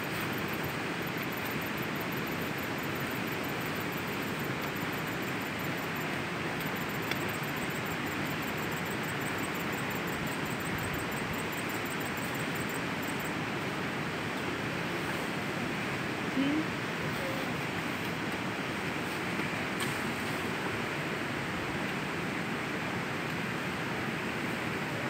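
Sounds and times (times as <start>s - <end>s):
outdoor hiss: 0.0s - 25.0s.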